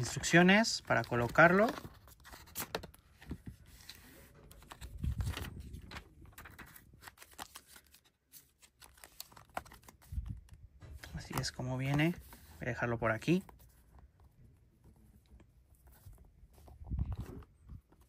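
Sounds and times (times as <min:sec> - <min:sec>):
paper and cardboard rustling: 0:00.0 - 0:18.0.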